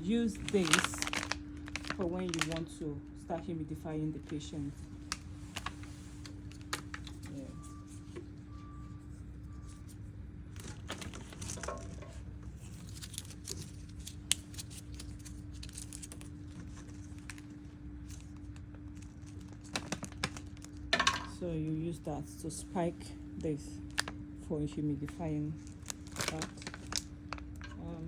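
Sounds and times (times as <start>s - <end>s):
plastic packaging crinkling and tearing: 0.0s - 3.5s, 4.2s - 8.2s, 9.1s - 21.3s, 23.8s - 24.2s, 24.8s - 28.0s
electrical hum: 0.0s - 28.0s.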